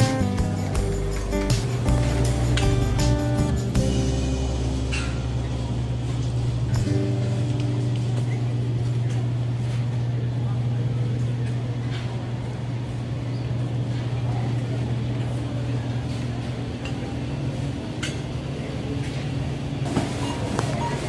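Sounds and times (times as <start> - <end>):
refrigeration hum: 0.0 - 21.0.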